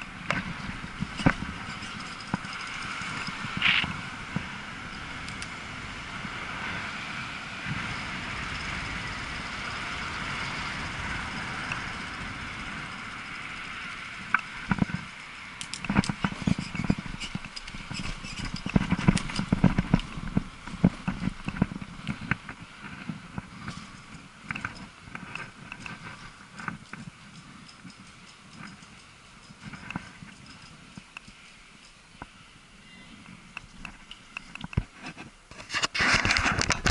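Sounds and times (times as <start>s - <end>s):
bike rattling over cobblestones: 0.0s - 32.4s
e-bike motor whirr: 0.0s - 35.0s.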